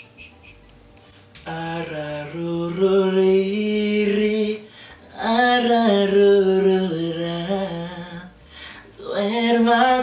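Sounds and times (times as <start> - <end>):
man singing a lullaby: 1.4 - 10.0.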